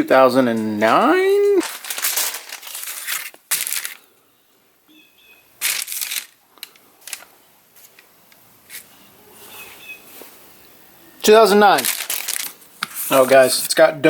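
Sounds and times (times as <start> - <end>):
rustling handling noise: 0.0 - 4.1, 5.6 - 10.4, 11.2 - 13.8.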